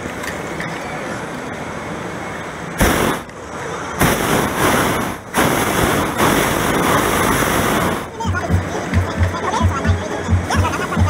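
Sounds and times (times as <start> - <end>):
steady hiss: 0.0 - 11.0
propane burner blasts: 1.2 - 11.0.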